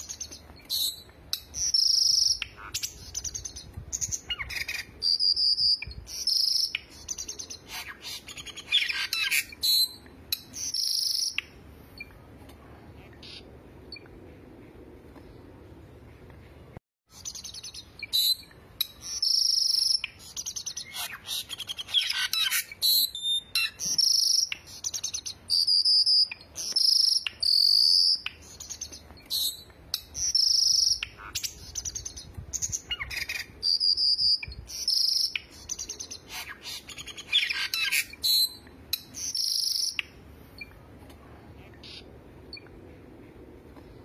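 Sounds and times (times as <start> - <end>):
songbirds singing: 0.0 - 12.3, 15.2 - 40.9.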